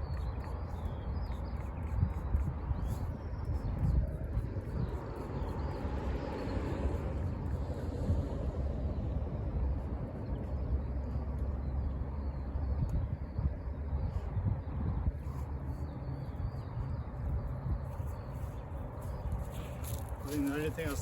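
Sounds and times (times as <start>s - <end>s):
outdoor low rumble: 0.0s - 21.0s.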